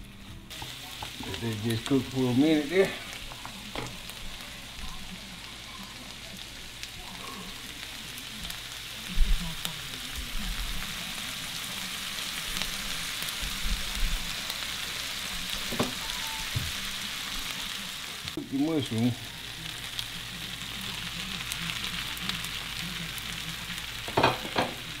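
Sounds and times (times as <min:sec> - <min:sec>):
vegetables sizzling in a skillet: 0:00.0 - 0:25.0.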